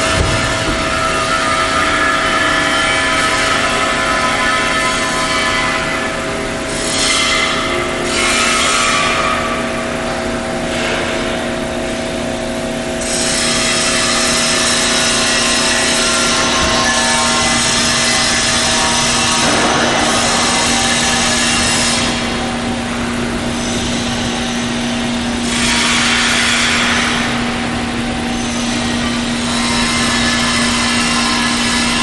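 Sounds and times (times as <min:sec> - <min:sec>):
industrial machinery humming: 0:00.0 - 0:32.0.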